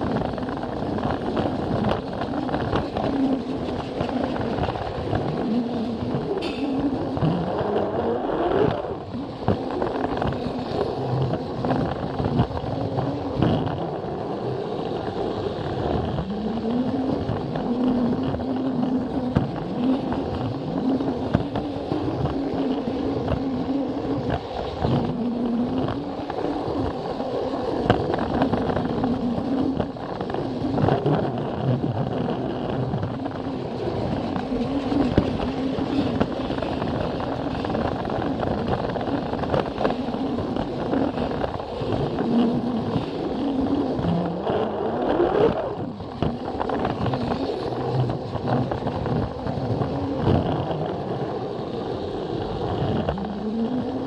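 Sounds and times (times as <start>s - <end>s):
wheels clicking over track joints: 0.0s - 54.0s.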